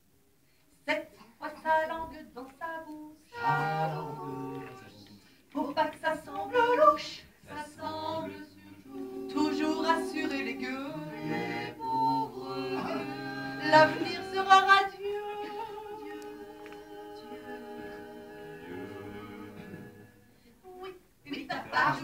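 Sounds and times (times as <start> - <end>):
vocal group singing in harmony: 1.5 - 22.0.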